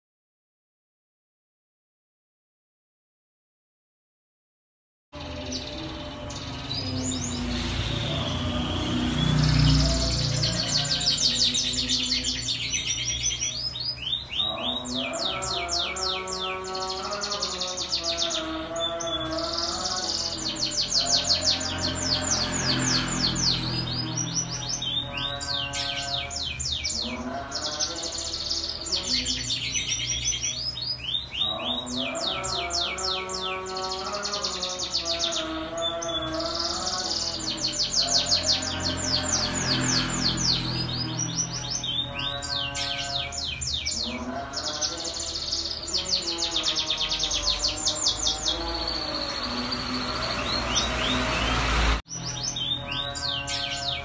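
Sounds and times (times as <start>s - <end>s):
canary singing trills: 5.2s - 54.0s.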